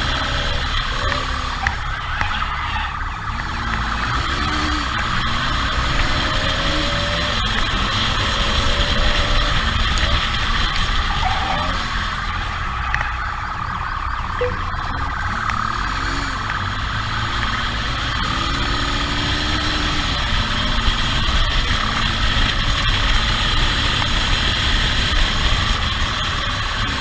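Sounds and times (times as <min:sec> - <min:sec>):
motorcycle engine revving: 0:00.0 - 0:27.0
police motorcycle siren: 0:00.0 - 0:27.0.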